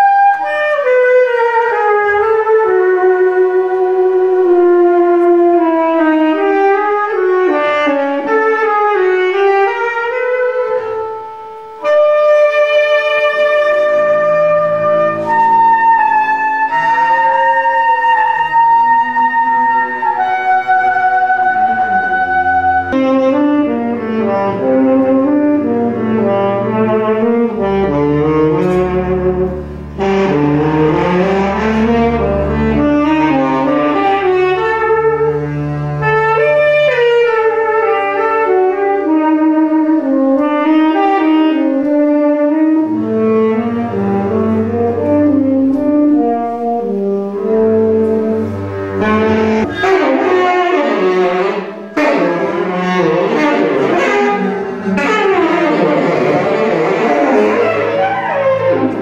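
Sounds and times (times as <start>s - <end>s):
instrumental melody: 0.0s - 59.0s
low held bass notes: 0.0s - 59.0s.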